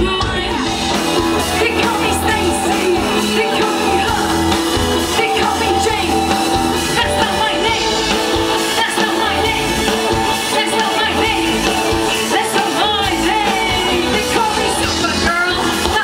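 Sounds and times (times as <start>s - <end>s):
live pop-rock band playing: 0.0s - 16.0s
woman singing: 0.0s - 16.0s.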